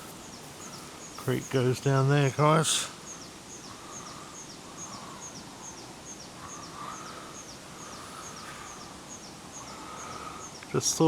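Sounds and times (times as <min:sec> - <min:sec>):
bird chirping: 0:00.0 - 0:10.8
steady outdoor hiss: 0:00.0 - 0:11.0.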